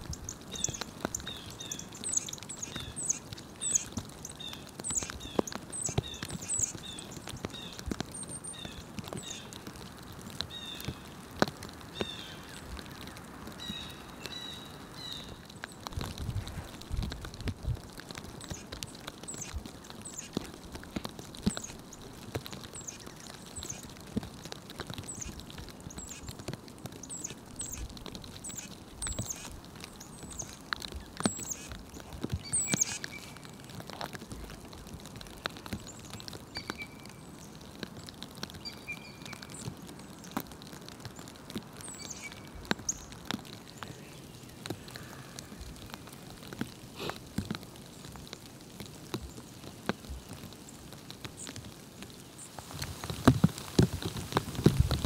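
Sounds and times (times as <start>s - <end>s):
songbirds chirping: 0.0s - 54.4s
light pattering ticks: 0.0s - 55.0s.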